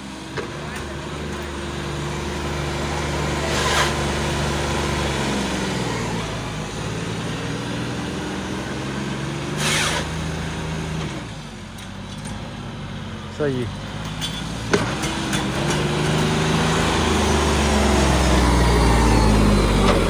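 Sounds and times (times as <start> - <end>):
tractor engine running: 0.0 - 9.4, 10.2 - 20.0.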